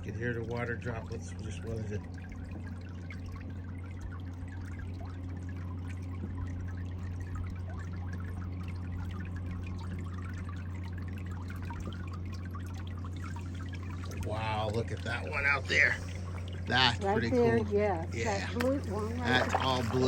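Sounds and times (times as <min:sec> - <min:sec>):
steady low hum: 0:00.0 - 0:20.0
water dripping and trickling: 0:00.0 - 0:20.0.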